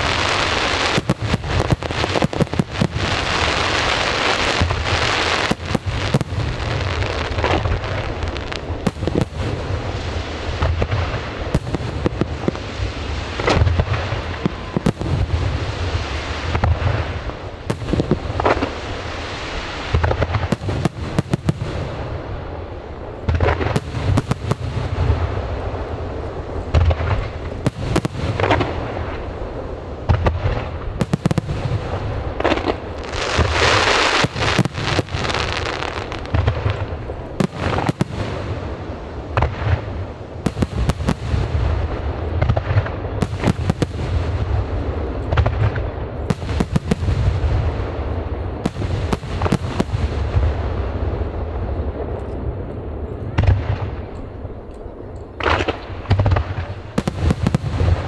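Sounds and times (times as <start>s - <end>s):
fireworks hiss: 0.0s - 51.5s, 55.4s - 58.0s
fireworks sharp bangs: 0.0s - 58.0s.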